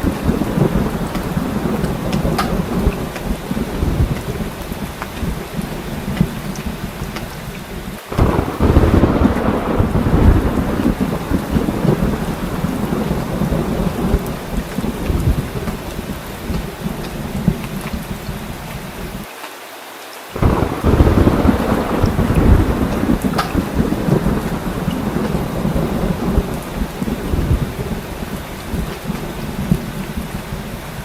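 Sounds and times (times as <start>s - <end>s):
rolling thunder: 0.0s - 19.2s, 20.4s - 31.0s
heavy rain pouring: 0.0s - 31.0s.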